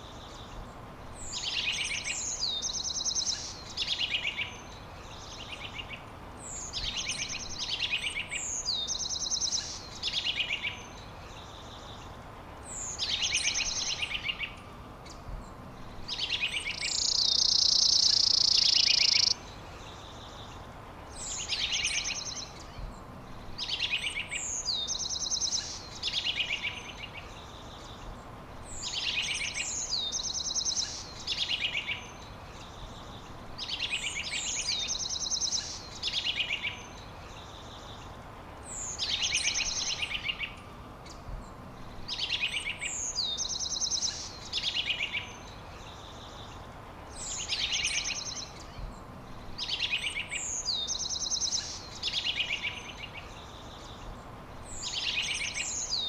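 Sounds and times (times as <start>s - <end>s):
songbird singing trills: 0.0s - 56.0s
steady background hiss: 0.0s - 56.0s.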